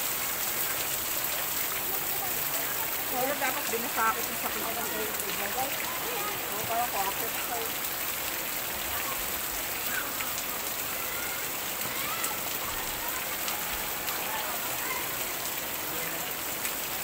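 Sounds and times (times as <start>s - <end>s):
waterfall splashing on rocks: 0.0s - 17.0s
faint voices: 0.6s - 16.7s.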